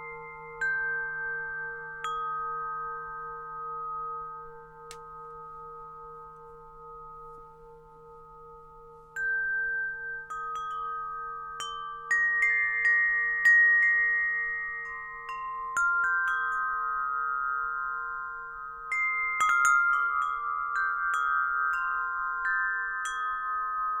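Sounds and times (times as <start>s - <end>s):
metal wind chimes: 0.0s - 24.0s
singing bowl drone: 0.0s - 24.0s.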